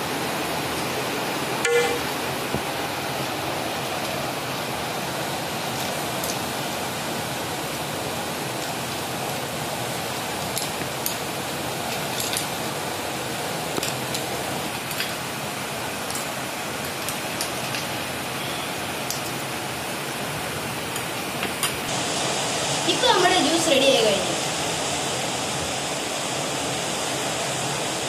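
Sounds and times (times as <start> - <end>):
steady rushing hiss: 0.0 - 28.0.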